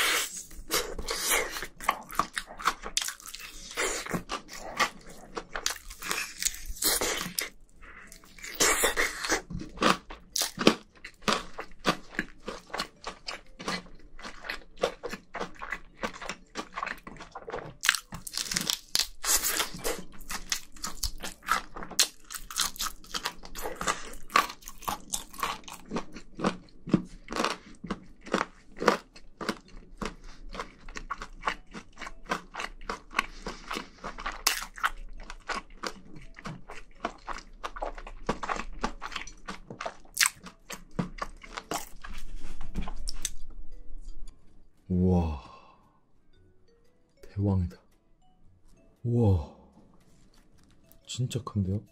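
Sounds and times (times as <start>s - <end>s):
crunching and chewing: 0.0s - 43.5s.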